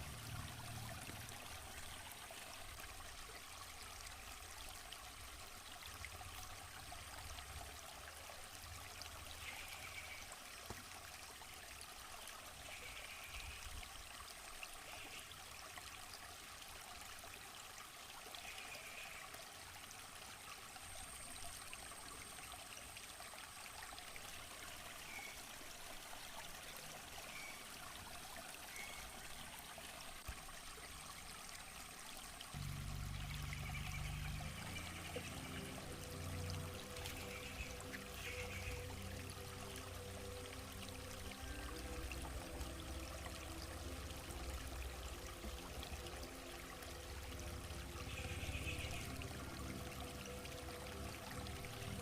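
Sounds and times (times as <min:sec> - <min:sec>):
water stream flowing: 0:00.0 - 0:52.0.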